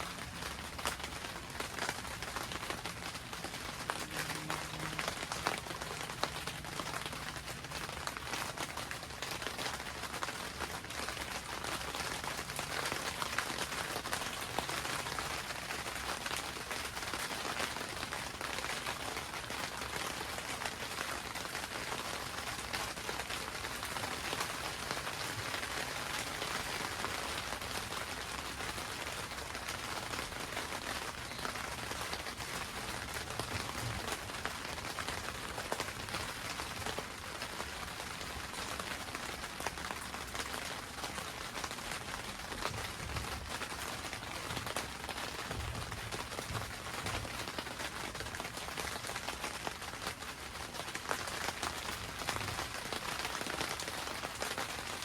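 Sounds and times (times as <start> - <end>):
rain on greenhouse roof: 0.0 - 55.0.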